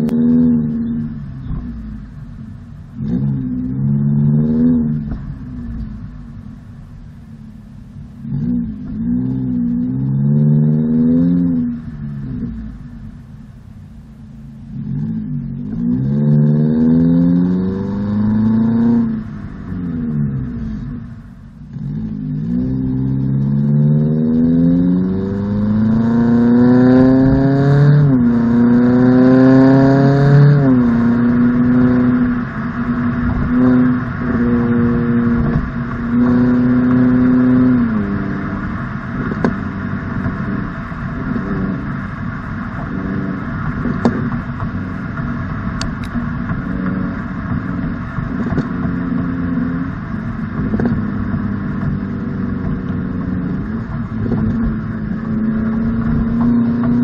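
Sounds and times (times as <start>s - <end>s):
car engine revving and droning: 0.0s - 57.0s.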